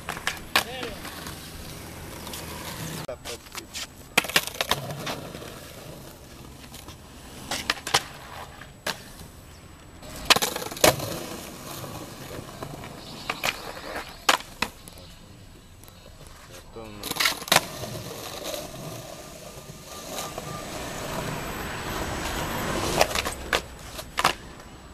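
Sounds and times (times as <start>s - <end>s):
skateboard clacks: 0.0s - 9.2s, 10.0s - 15.1s, 15.8s - 20.5s, 22.8s - 24.8s
skateboard wheels rolling on concrete: 0.0s - 24.9s.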